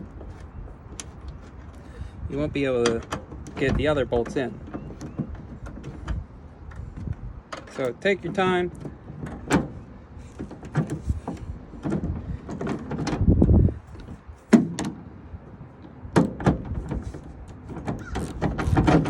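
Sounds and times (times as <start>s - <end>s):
clicks and knocks of handle: 2.8s - 15.0s, 15.8s - 19.0s.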